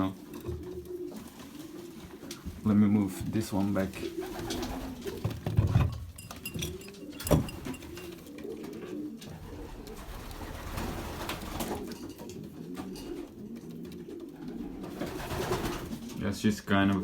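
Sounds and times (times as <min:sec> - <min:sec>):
pigeons cooing: 0:00.0 - 0:16.4.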